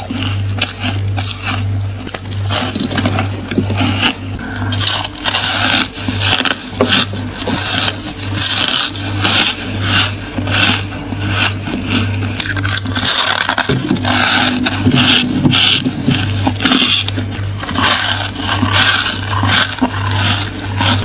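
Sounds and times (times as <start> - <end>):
ice crunched between teeth: 0.0 - 21.0
low pulsing hum: 0.0 - 21.0.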